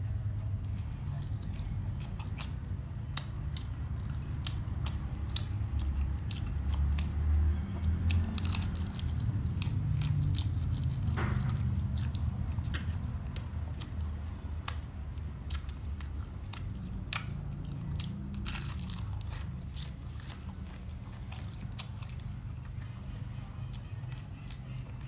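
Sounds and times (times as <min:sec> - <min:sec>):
chewing crusty bread: 0:00.0 - 0:25.0
steady low rumble: 0:00.0 - 0:25.0.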